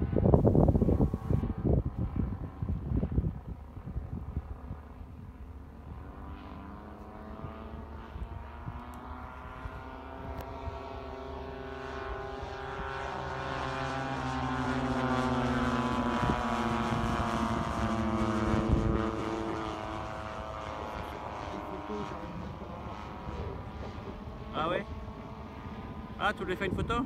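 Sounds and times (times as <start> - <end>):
propeller plane flying past: 0.0 - 27.0.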